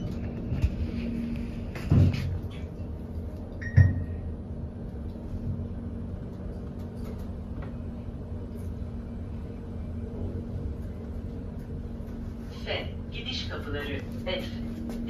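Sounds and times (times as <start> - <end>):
elevator low hum: 0.0 - 15.0.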